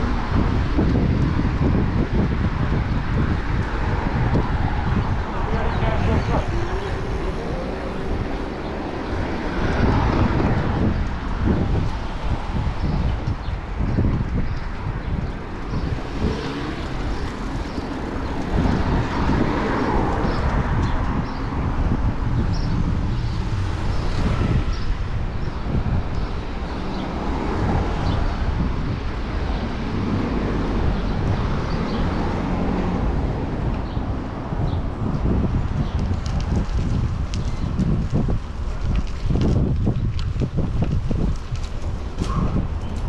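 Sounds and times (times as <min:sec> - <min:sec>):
city traffic going by: 0:00.0 - 0:43.0
wind rushing over microphone: 0:00.0 - 0:43.0.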